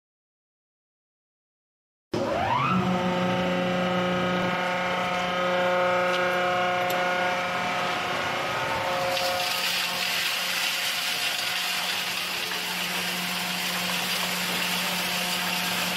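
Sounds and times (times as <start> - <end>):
blower motor whining: 2.2 - 15.9.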